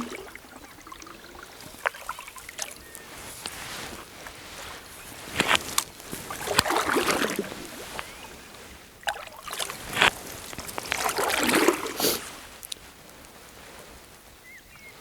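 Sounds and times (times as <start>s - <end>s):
canoe paddle splashing: 0.0s - 12.7s.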